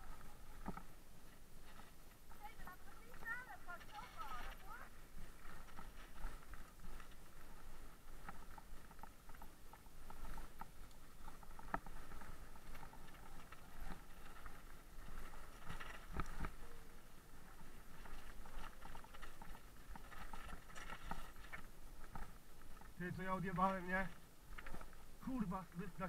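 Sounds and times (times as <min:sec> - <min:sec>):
tyres on loose gravel: 0:00.0 - 0:26.0
bike rattling over bumps: 0:01.7 - 0:25.2.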